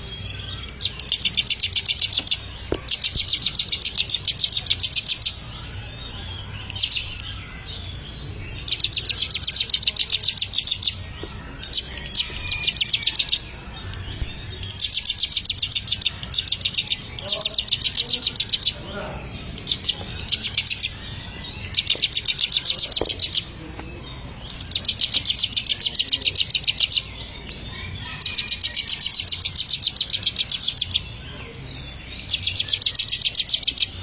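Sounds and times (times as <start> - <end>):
bird song of high chirps: 0.0 - 34.0.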